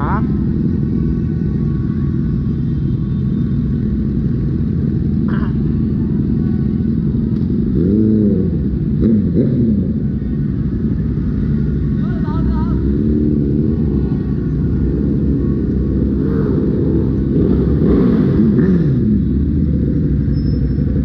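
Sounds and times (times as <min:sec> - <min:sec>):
motorbike traffic rumble: 0:00.0 - 0:21.0
engines revving: 0:03.8 - 0:21.0.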